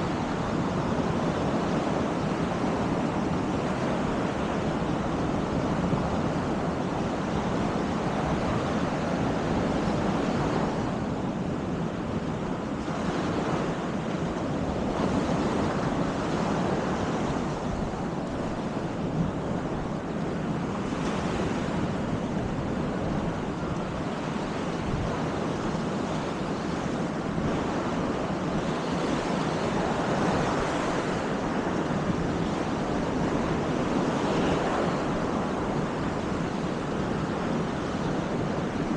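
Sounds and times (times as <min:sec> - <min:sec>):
waves breaking on a beach: 0:00.0 - 0:38.9
wind rumbling on microphone: 0:00.0 - 0:38.9.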